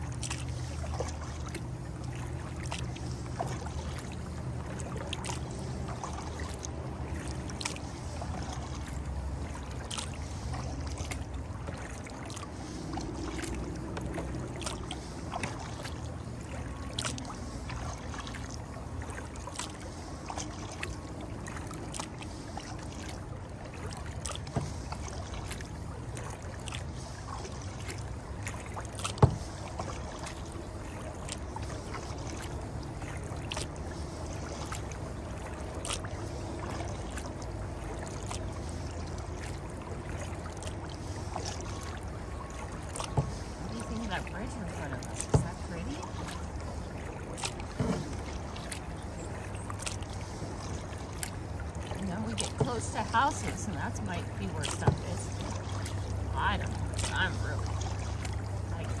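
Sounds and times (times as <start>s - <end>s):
low steady rumble: 0.0s - 59.0s
water splashing off paddle blades: 0.0s - 59.0s.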